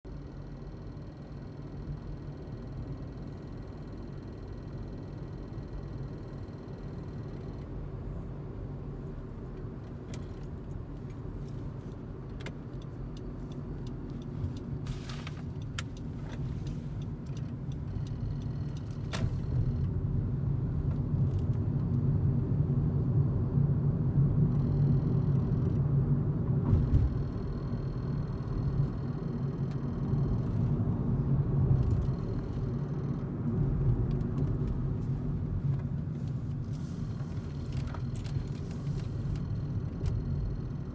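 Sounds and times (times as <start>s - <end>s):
car engine and road noise: 0.1s - 40.9s.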